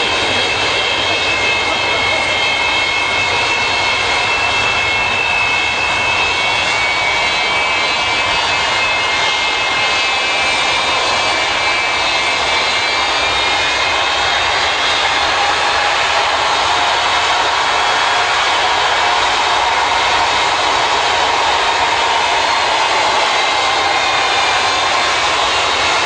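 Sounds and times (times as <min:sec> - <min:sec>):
high turbine whine: 0:00.0 - 0:26.0
jet engines roaring: 0:00.0 - 0:26.0.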